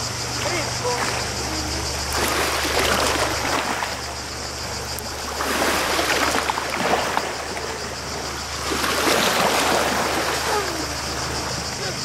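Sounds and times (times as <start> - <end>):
waves lapping against a jetty: 0.0 - 12.0.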